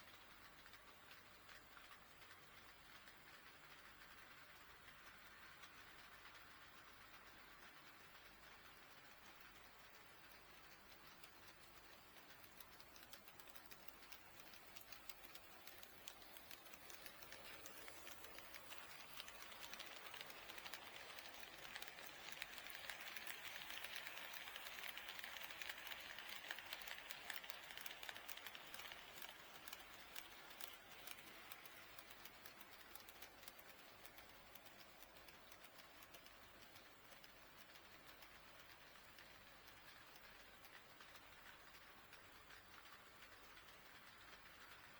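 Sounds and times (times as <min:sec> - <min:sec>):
model train running on track: 0:00.0 - 0:44.9.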